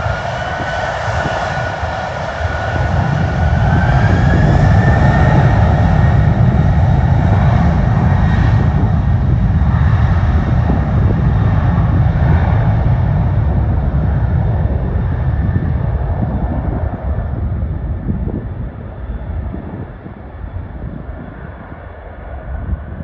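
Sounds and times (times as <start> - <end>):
jet airliner engines rumbling: 0.0 - 23.0.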